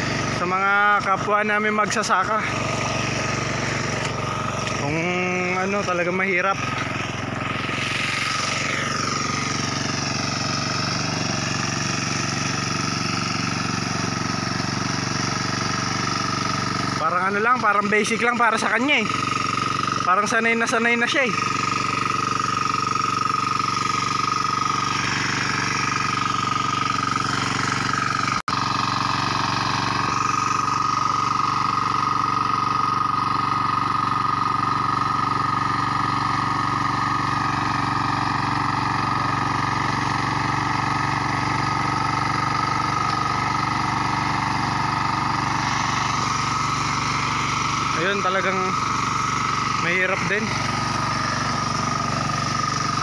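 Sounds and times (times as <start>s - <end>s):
hand tractor engine running: 0.0s - 53.0s
wheels churning through mud: 0.0s - 53.0s.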